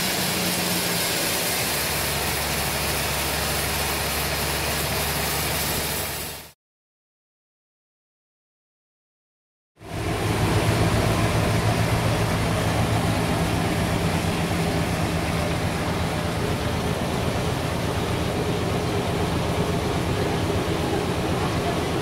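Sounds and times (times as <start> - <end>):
sawmill machinery running: 0.0 - 6.5, 9.8 - 22.0.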